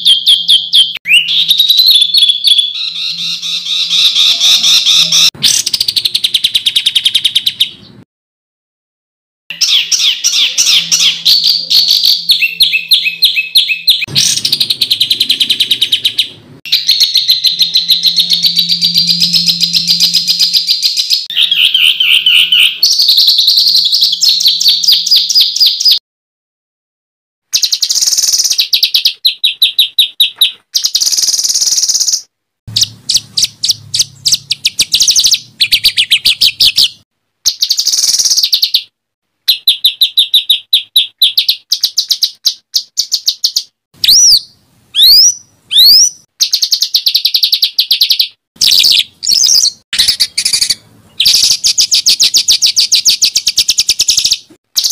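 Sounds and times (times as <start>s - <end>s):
bird chattering and trilling: 0.0s - 8.0s, 9.5s - 26.0s, 27.6s - 38.9s, 39.5s - 54.9s.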